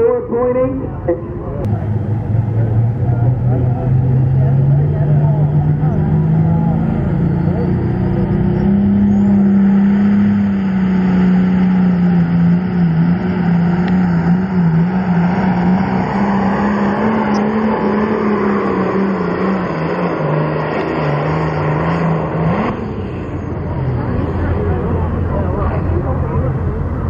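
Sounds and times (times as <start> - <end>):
tractor engine at full throttle: 0.0 - 27.0.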